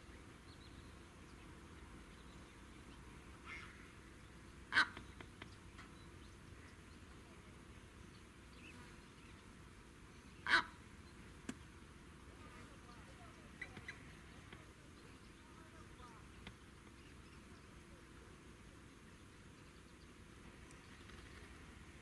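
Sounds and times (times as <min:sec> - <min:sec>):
bird calls: 0:00.0 - 0:18.3, 0:19.0 - 0:22.0
faint background hiss: 0:00.0 - 0:22.0.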